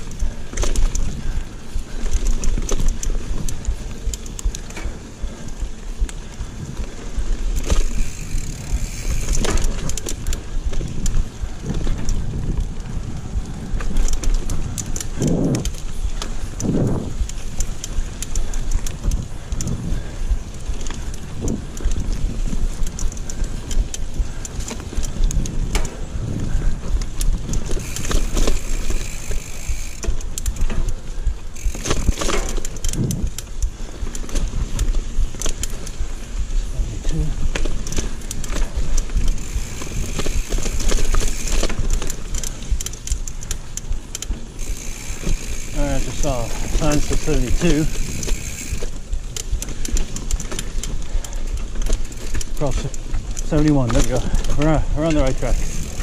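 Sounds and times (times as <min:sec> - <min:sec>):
bike bumps: 0:00.0 - 0:36.4, 0:37.1 - 0:56.0
bike frame and chain rattling: 0:00.0 - 0:56.0
bike tyres rolling over dirt: 0:00.0 - 0:56.0.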